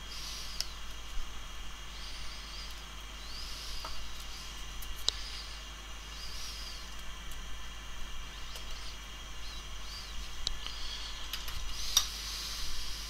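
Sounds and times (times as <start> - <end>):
steady hiss and low hum: 0.0 - 13.0.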